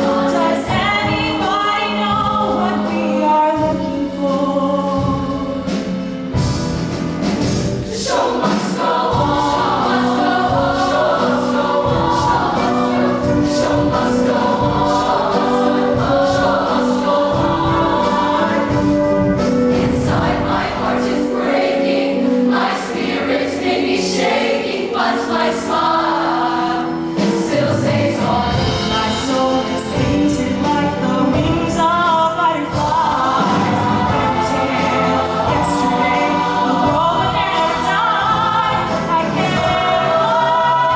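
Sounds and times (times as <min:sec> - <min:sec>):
choir singing in parts: 0:00.0 - 0:01.7, 0:04.0 - 0:40.9
backing band: 0:00.0 - 0:40.9.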